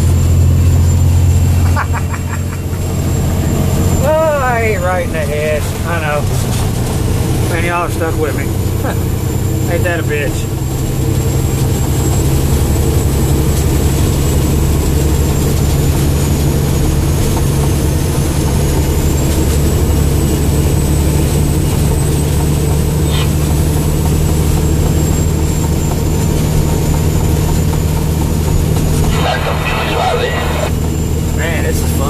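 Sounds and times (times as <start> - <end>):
road noise: 0.0 - 32.0
truck engine running: 0.0 - 32.0.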